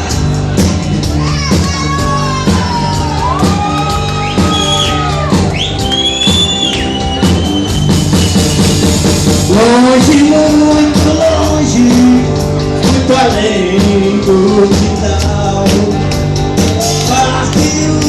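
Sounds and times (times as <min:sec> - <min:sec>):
drum kit beat: 0:00.0 - 0:18.0
live rock band instrumental: 0:00.0 - 0:18.0.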